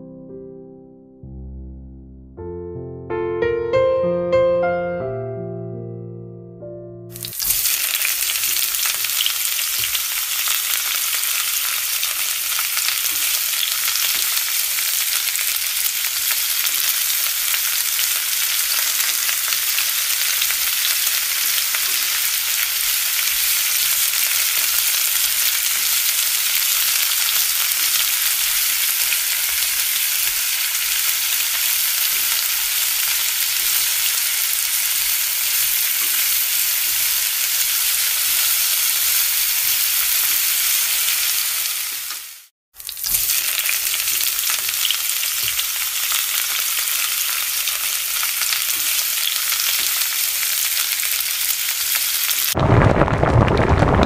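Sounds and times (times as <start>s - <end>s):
chicken sizzling in oil: 7.1s - 52.6s
mushrooms and onion sizzling: 7.1s - 52.6s.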